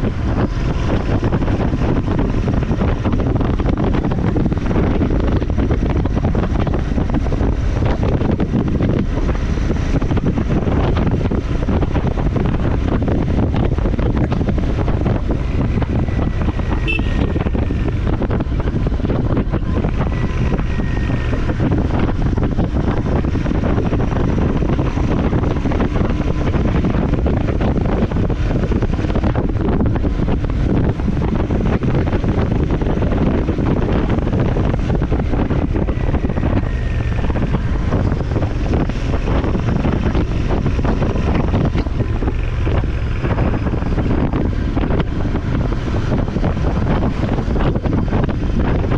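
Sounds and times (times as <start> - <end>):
motorcycle engine: 0.0 - 48.9
wind buffeting microphone: 0.0 - 48.9.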